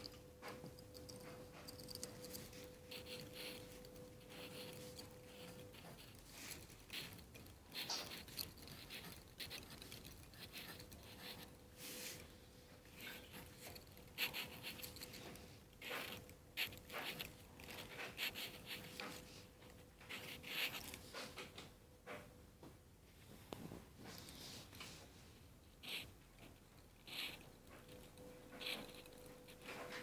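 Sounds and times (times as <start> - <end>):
pencil scratching on paper: 0.0 - 21.4, 25.8 - 30.0.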